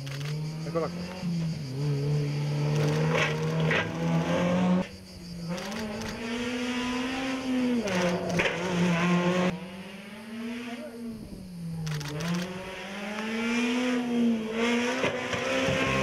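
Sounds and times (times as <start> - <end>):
rally car engines at high revs: 0.0 - 16.0.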